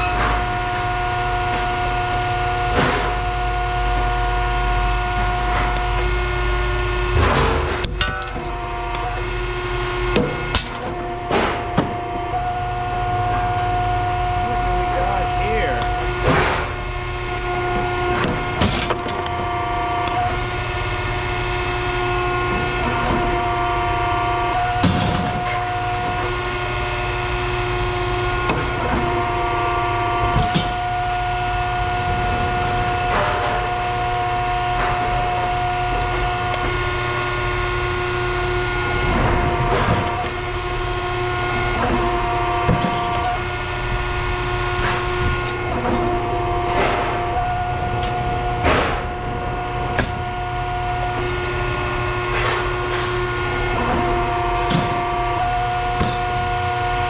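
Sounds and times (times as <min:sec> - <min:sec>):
machine humming and whining: 0:00.0 - 0:57.0.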